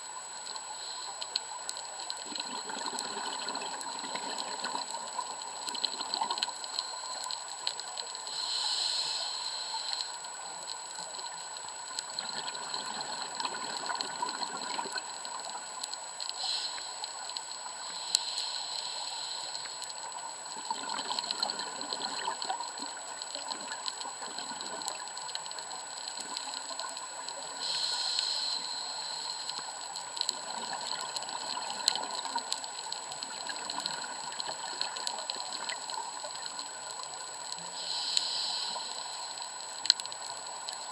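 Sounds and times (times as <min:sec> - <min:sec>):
steady hiss: 0:00.0 - 0:40.9
underwater exhaust bubbles: 0:01.6 - 0:09.1, 0:09.9 - 0:40.9.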